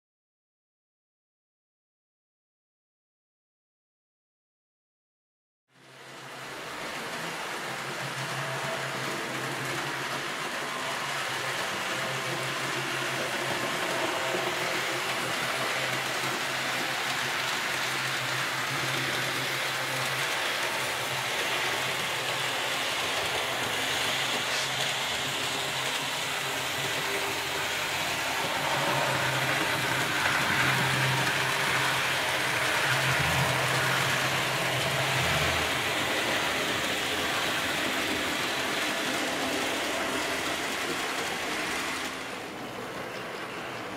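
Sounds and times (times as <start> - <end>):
wheels rolling on track: 5.8 - 43.9
model train motors whirring: 6.2 - 43.9.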